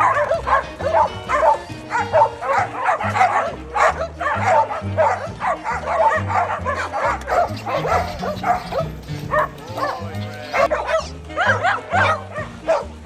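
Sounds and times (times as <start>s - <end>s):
background music with bass line: 0.0s - 13.0s
dogs barking and yipping: 0.0s - 13.0s.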